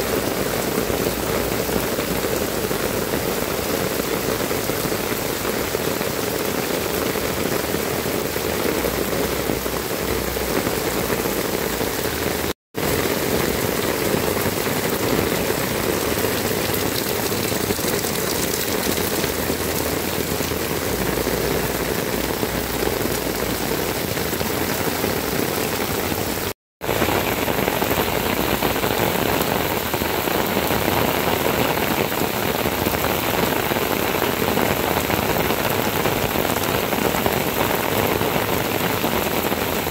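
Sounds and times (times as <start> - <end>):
heavy rain on tiled roofs: 0.0 - 39.9.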